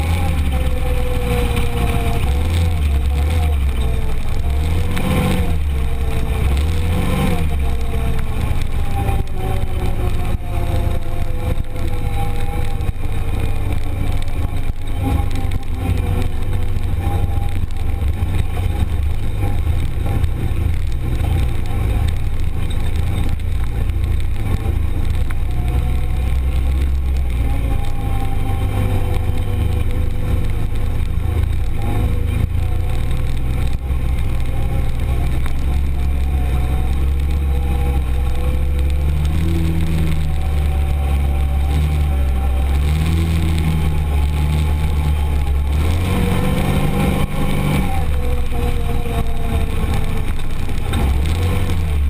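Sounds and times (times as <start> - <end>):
vehicle engine running: 0.0 - 52.0.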